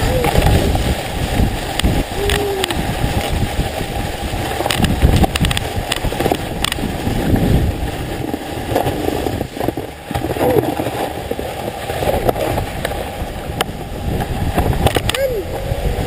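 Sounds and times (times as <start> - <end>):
sledge runners rumbling over snow: 0.0 - 16.0
wind buffeting microphone: 0.0 - 16.0.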